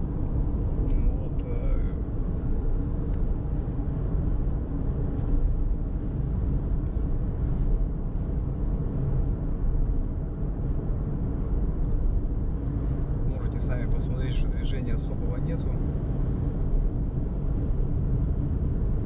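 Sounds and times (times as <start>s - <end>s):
car road rumble inside cabin: 0.0s - 19.0s.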